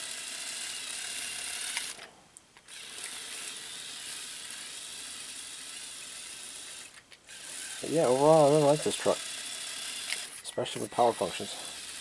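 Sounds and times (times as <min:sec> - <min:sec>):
toy motor gears whirring: 0:00.0 - 0:12.0.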